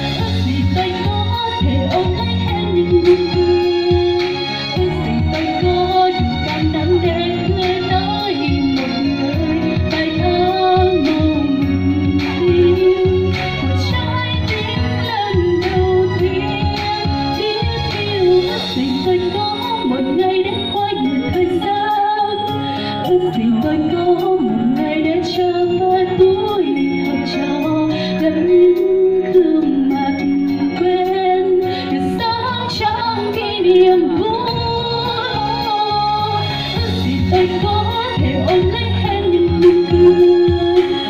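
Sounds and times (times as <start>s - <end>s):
backing track with steady beat: 0.0s - 41.0s
woman singing into a microphone: 0.0s - 41.0s.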